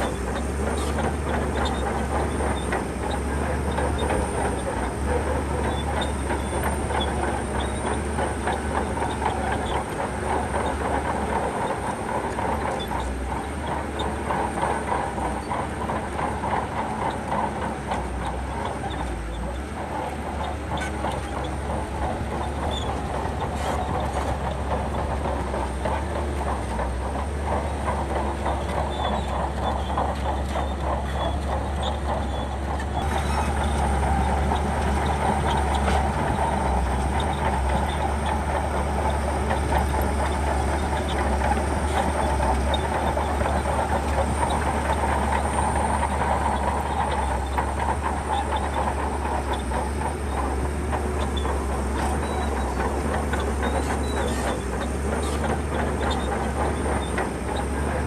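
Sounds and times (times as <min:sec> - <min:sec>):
diesel engine droning: 0:00.0 - 0:58.0
steel tracks clanking: 0:00.0 - 0:58.0.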